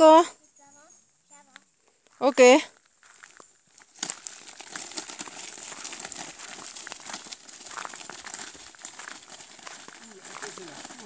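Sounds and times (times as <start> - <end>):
footsteps on gravel: 1.9 - 11.0.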